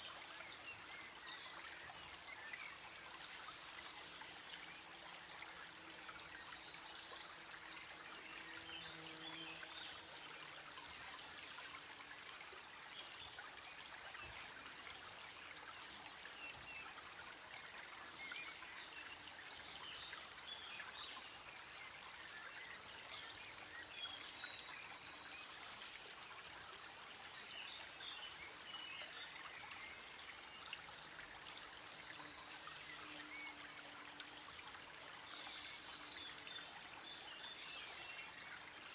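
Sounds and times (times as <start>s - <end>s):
faint water trickling: 0.0s - 38.9s.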